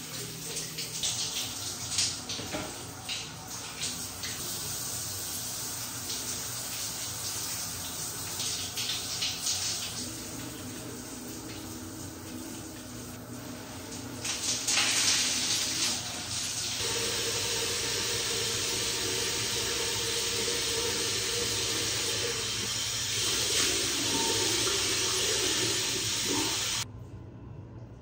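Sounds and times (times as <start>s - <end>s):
shower spray on tiles: 0.0s - 26.8s.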